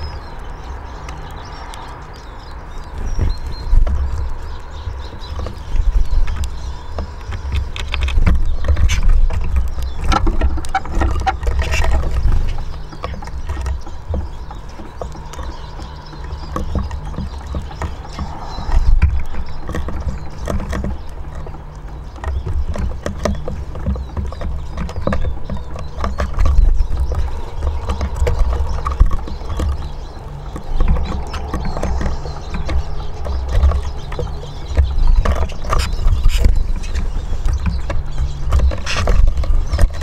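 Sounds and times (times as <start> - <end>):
birds pecking on wood: 0.0 - 40.0.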